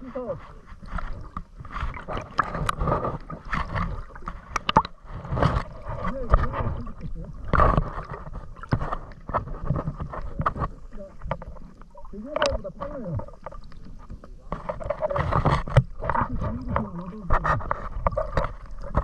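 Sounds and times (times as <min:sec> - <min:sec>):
seawater splashing and gurgling: 0:00.0 - 0:19.0.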